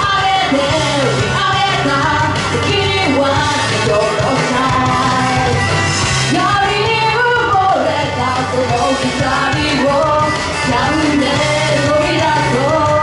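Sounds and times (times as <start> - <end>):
backing music with bass line: 0.0 - 13.0
woman singing into microphone: 0.0 - 13.0.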